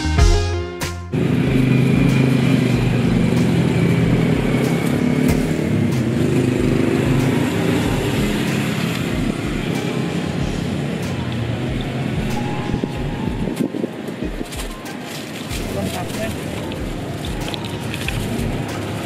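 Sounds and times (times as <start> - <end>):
road traffic noise: 0.0 - 19.0
vehicle engine humming: 0.0 - 19.0.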